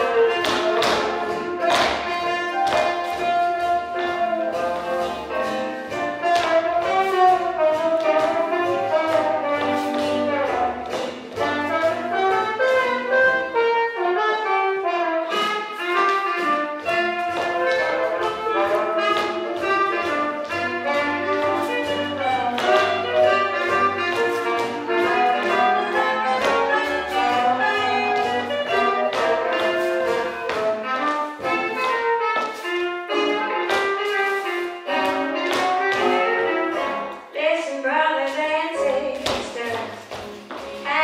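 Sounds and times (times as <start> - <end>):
swing jazz band with brass: 0.0 - 37.3.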